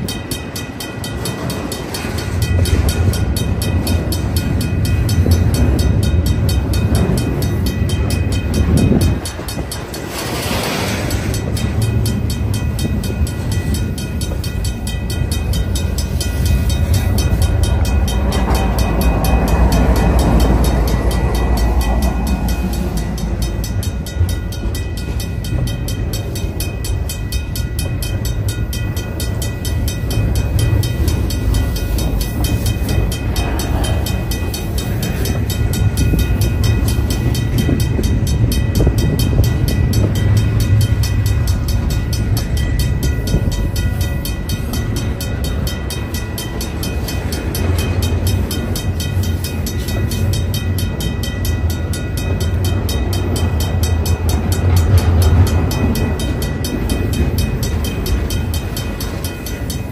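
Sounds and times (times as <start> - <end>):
freight train rolling past: 0.0 - 59.9
level-crossing bell ringing: 0.0 - 59.9.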